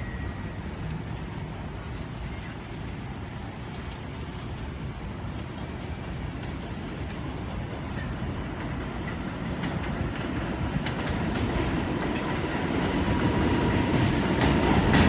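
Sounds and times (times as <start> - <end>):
city traffic rumble: 0.0 - 15.0
distant subway train approaching: 0.0 - 15.0.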